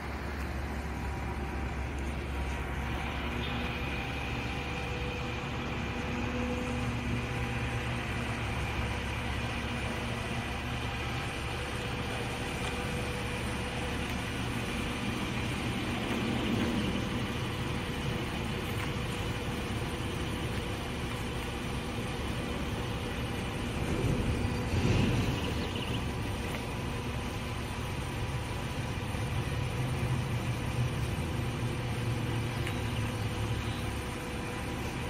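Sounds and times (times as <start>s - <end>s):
heavy vehicle engine idling: 0.0s - 35.0s.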